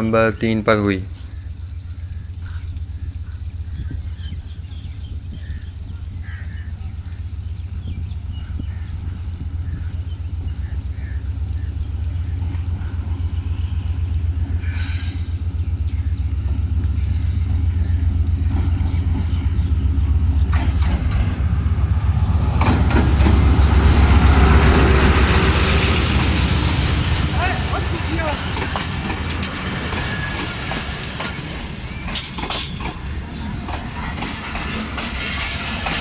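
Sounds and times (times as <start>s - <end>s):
locomotive engine rumbling: 0.0s - 36.0s
wheels rushing on rails: 0.0s - 36.0s.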